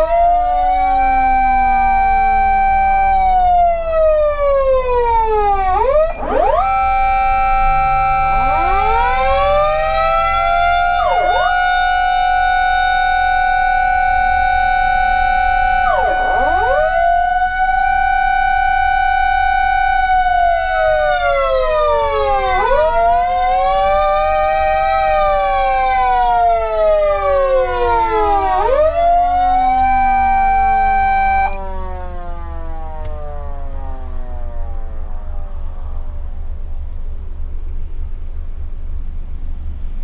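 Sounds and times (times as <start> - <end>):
fire engine siren wailing: 0.0 - 36.9
faint tone sliding down: 0.0 - 37.2.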